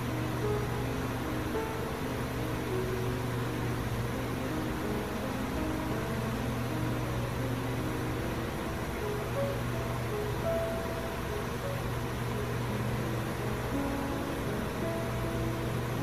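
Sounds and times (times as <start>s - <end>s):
quiet background music: 0.0s - 16.0s
steady low hum: 0.0s - 16.0s.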